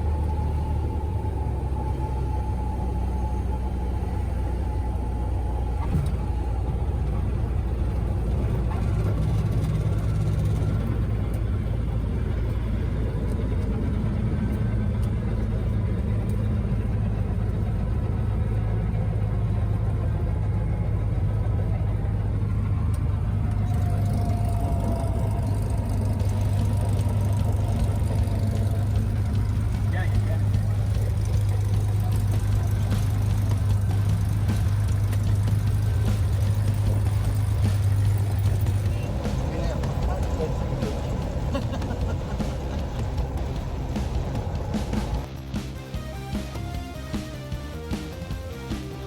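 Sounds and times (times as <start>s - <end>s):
light aircraft engine droning: 0.0s - 49.0s.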